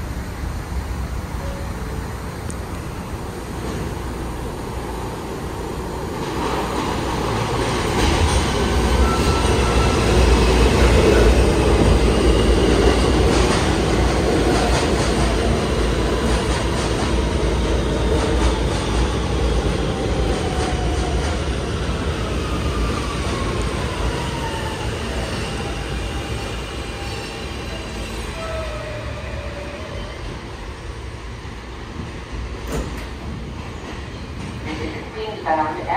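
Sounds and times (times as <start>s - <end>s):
train wheels rumbling on rails: 0.0s - 35.8s.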